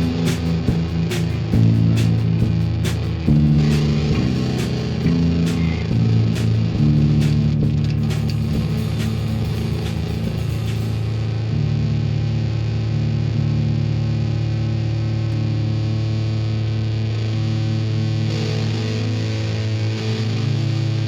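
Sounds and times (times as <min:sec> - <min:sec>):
bass guitar: 0:00.0 - 0:21.0
distorted electric guitar: 0:00.0 - 0:21.0.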